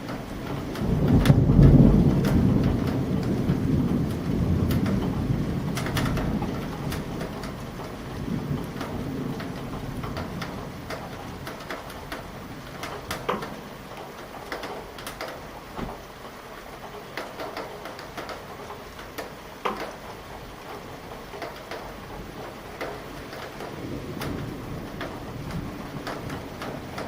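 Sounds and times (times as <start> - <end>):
raindrops tapping hard surface: 0.0 - 27.0
steady rain falling: 0.0 - 27.0.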